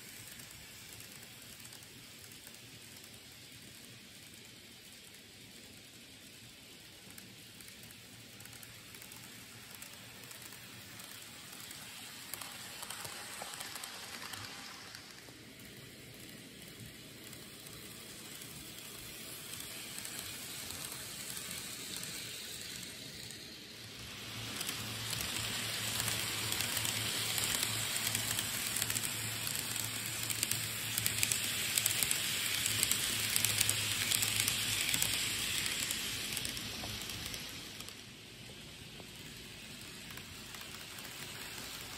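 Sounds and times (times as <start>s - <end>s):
model train wheels on rail: 0.0s - 41.9s.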